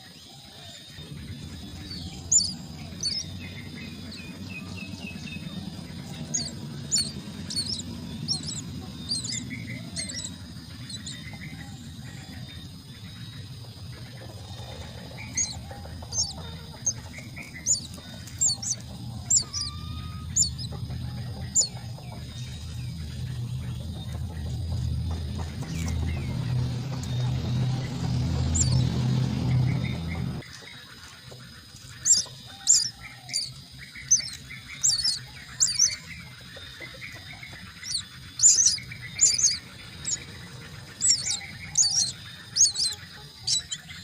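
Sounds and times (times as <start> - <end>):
chicks cheeping: 0.0 - 44.0
steady low hum: 0.2 - 44.0.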